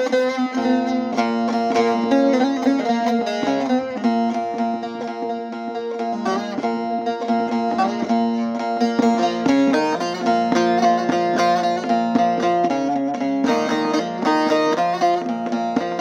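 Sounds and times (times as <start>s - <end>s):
plucked long-necked lute melody: 0.0s - 16.0s.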